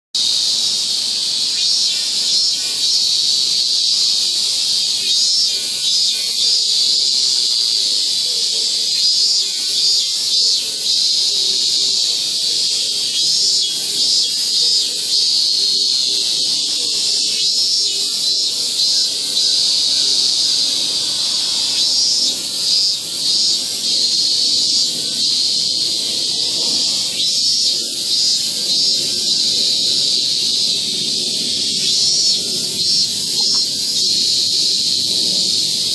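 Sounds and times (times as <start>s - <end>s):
cicadas buzzing: 0.2s - 35.9s.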